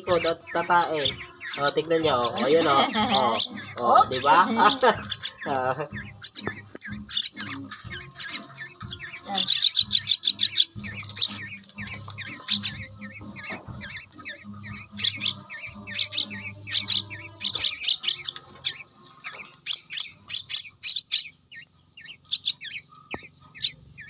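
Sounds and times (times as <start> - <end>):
fledgling birds begging calls: 0.0 - 24.0.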